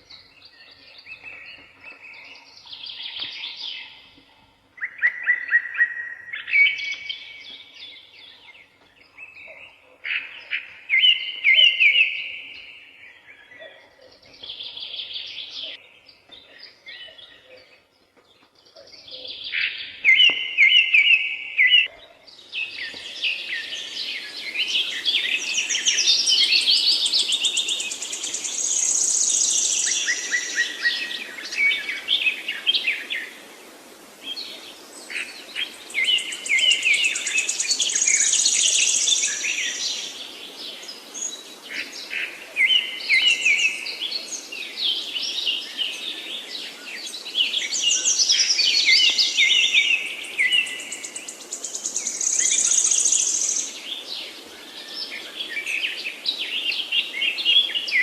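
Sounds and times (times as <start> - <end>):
songbirds singing: 0.0 - 58.0
steady background hiss: 0.0 - 58.0.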